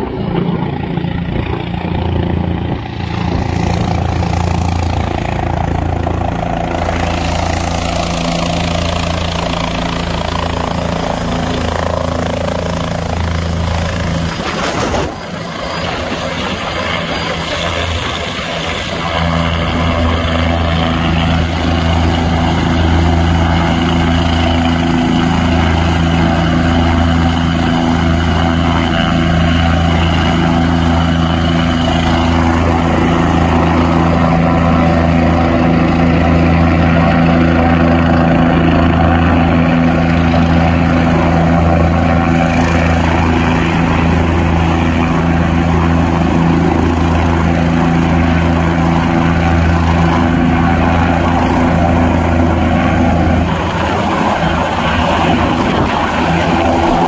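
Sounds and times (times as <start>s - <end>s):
helicopter engine and rotor drone: 0.0s - 57.0s
helicopter turbine whine: 0.0s - 57.0s.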